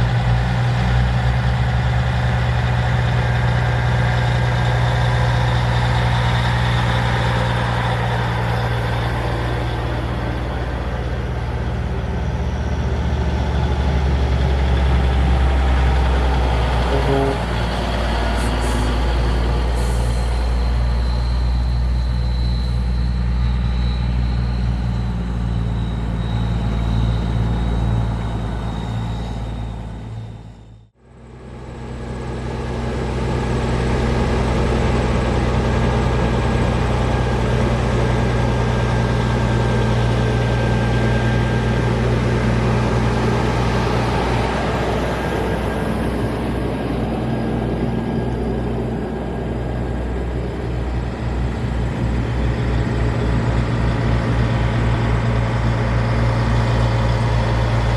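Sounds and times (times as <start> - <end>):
diesel truck engine idling: 0.0 - 57.9.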